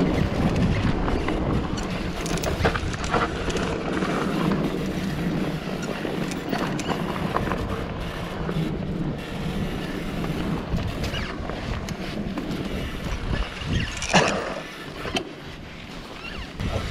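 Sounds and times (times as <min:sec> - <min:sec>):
bike clicks and rattles over bumps: 0:00.0 - 0:16.9
bike tyre noise on dirt: 0:00.0 - 0:16.9
wind rush over microphone: 0:00.0 - 0:16.9.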